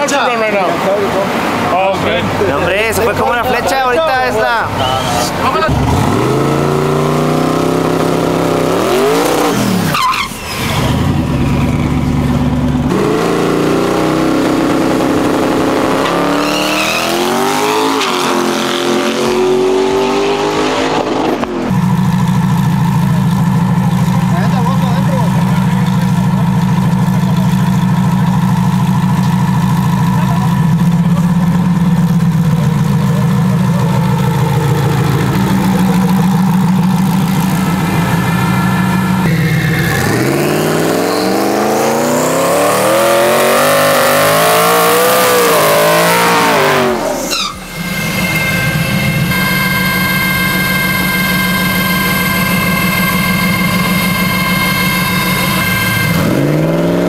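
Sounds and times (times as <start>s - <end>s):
truck engine accelerating: 0.0s - 57.0s
truck engine running: 0.0s - 57.0s.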